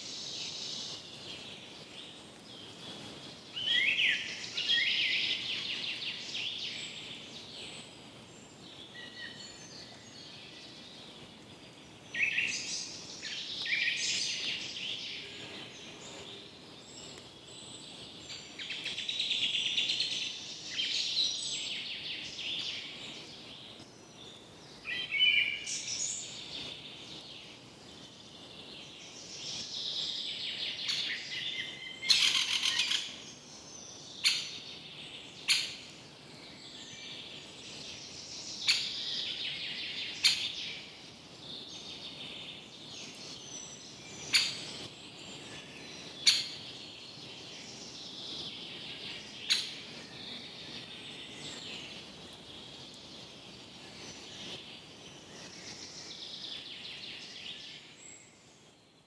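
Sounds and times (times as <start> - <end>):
birds chirping: 0.0 - 58.8.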